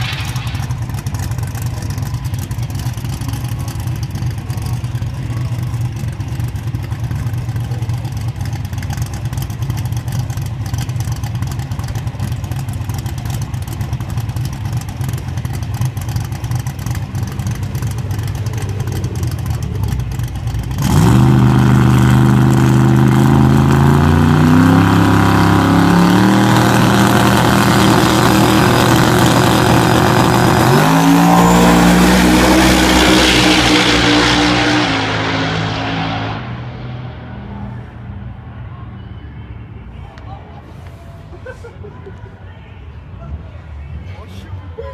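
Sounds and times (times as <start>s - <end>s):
car engine accelerating hard: 0.0s - 38.0s
car engine idling: 0.0s - 39.1s.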